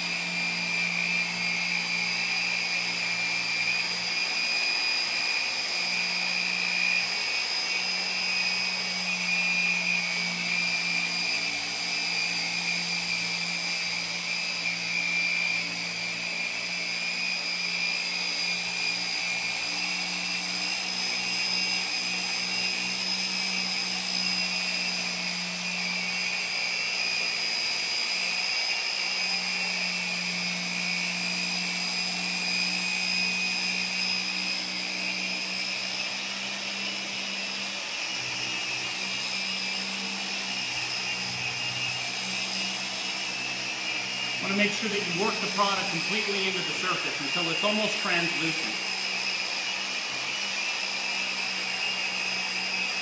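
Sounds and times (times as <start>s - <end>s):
orbital polisher whining: 0.0s - 53.0s.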